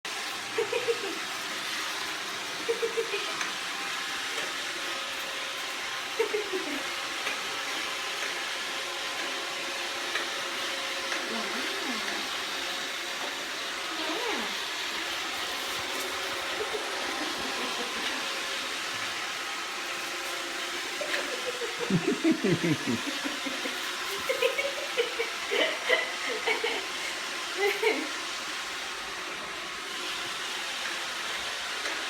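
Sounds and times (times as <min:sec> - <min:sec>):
robot vacuum whirring: 0:00.1 - 0:32.0.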